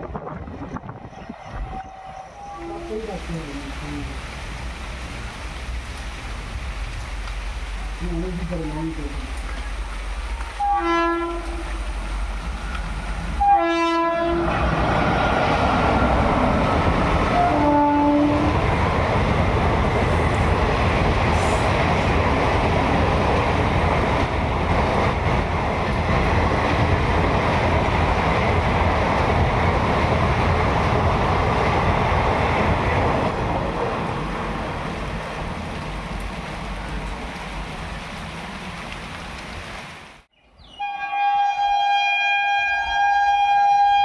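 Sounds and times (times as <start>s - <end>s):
passenger train rolling on track: 0.0s - 40.0s.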